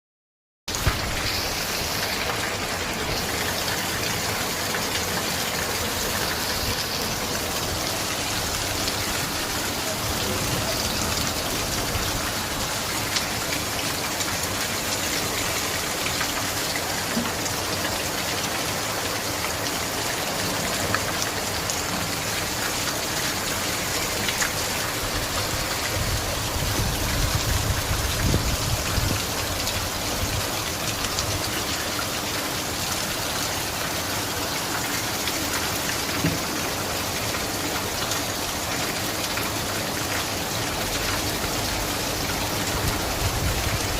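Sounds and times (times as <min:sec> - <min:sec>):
steady rain falling: 0:00.7 - 0:43.9.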